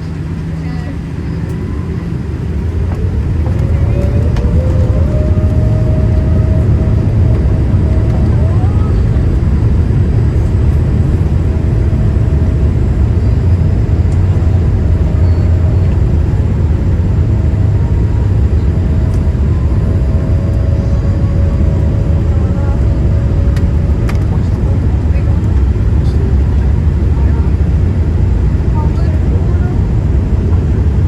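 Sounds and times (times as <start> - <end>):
jet engine rumble in cabin: 0.0 - 31.0.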